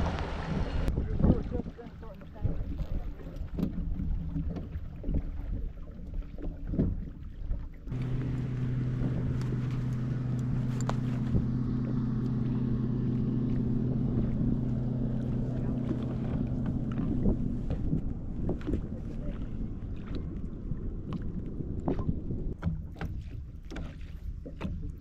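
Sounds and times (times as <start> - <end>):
low motor hum: 0.0 - 25.0
water slapping around boat: 0.0 - 25.0
wind: 0.0 - 25.0.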